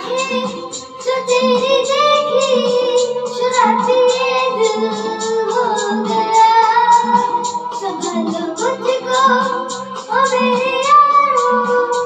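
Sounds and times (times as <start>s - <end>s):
backing music with steady beat: 0.0s - 12.0s
boy singing into microphone: 0.0s - 12.0s.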